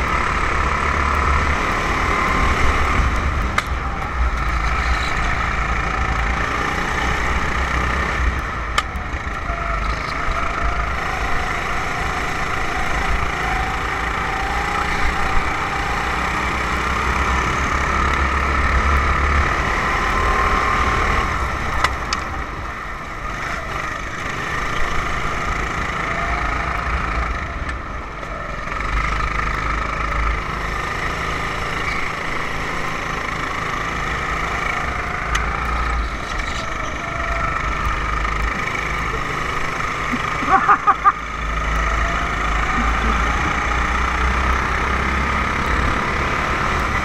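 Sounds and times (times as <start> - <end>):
kart engine revving: 0.0 - 47.0.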